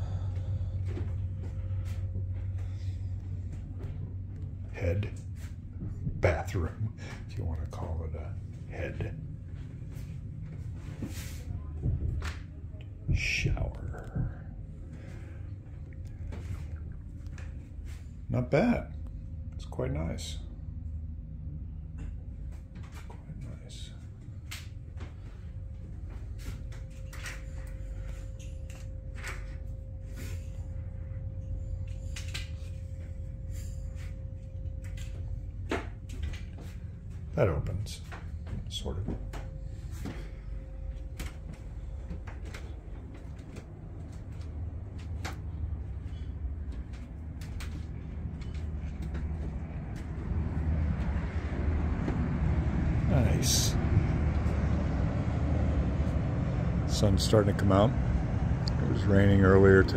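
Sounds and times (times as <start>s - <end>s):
low hum of boat machinery: 0.0s - 59.9s.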